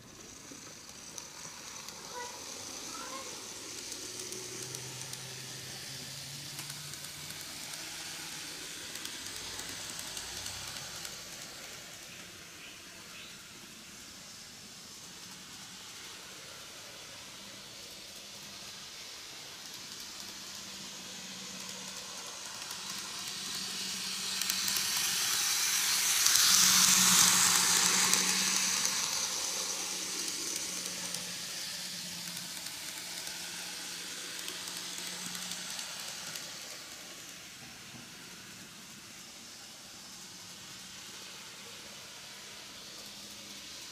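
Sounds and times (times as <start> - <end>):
model train motor whirring: 0.0 - 43.9.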